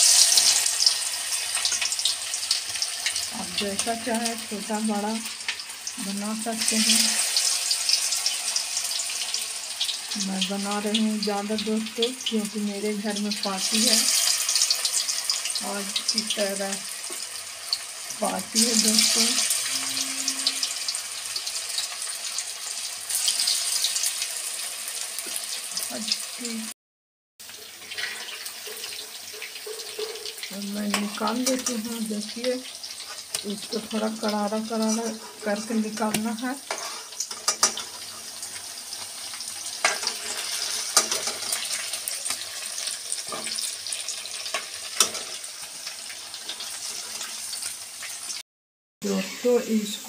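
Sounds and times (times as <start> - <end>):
deep-frying in hot oil: 0.0 - 26.8, 27.4 - 48.4, 49.0 - 50.0.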